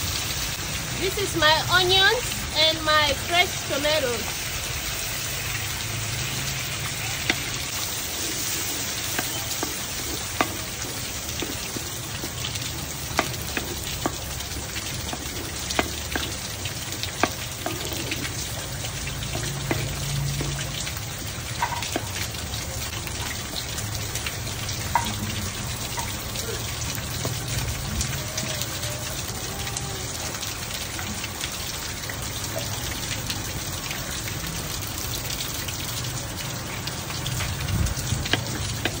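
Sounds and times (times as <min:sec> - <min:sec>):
onions frying in hot oil: 0:00.0 - 0:39.0.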